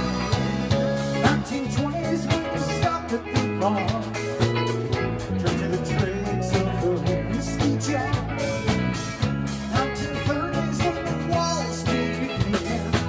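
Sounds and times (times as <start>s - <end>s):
live rock band playing: 0.0s - 13.0s
steady drum beat: 0.0s - 13.0s.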